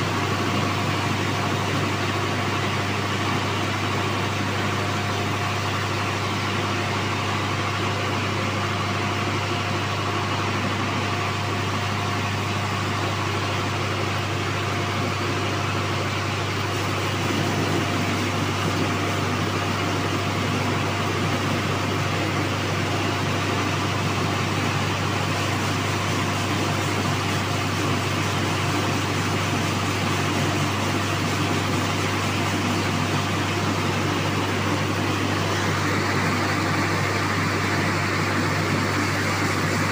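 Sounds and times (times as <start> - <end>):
milling machinery droning hum: 0.0 - 39.9.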